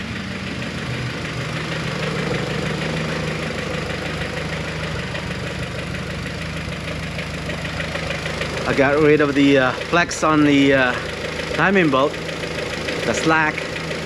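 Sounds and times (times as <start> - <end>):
car engine idling: 0.0 - 14.0
fast steady engine ticking: 0.0 - 14.0.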